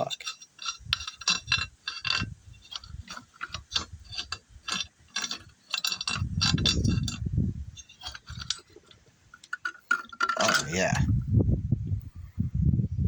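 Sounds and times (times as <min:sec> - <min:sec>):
low rumbling clatter: 0:00.0 - 0:12.5.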